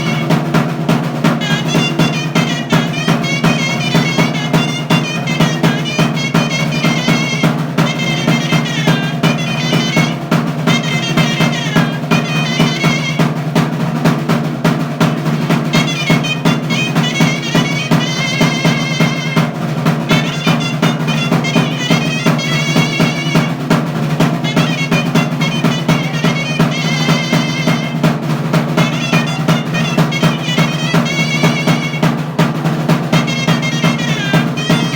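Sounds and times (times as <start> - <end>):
double-reed shawm melody: 0.0 - 34.9
rapid drumming: 0.0 - 34.9.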